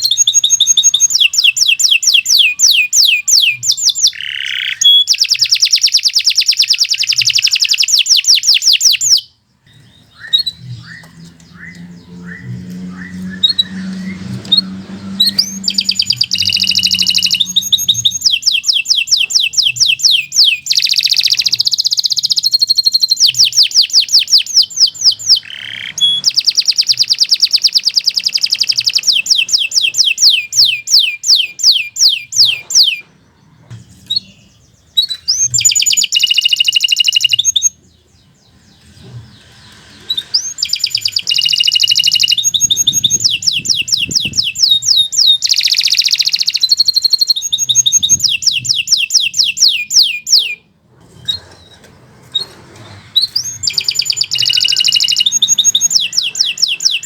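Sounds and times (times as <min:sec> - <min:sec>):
canary singing trills: 0:00.0 - 0:51.8, 0:52.4 - 0:57.0.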